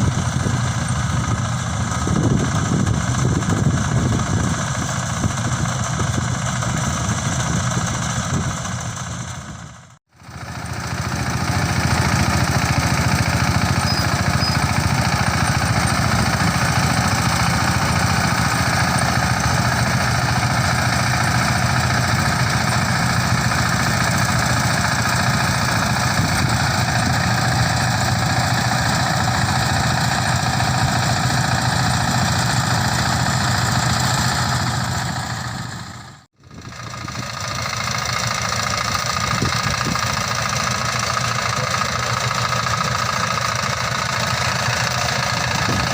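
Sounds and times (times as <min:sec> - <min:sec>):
harvester engine drone: 0:00.0 - 0:45.9.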